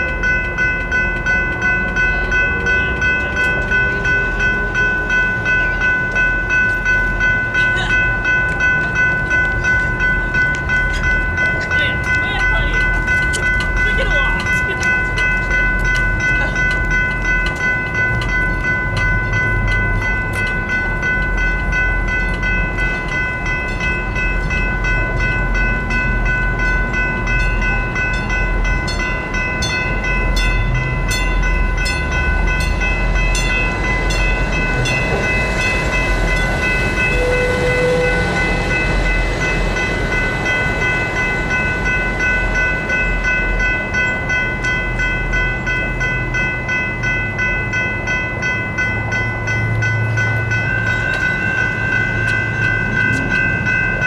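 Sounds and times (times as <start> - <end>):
passing train noise: 0.0 - 54.0
railroad crossing bell ringing: 0.0 - 54.0
train wheel clicks: 0.0 - 54.0.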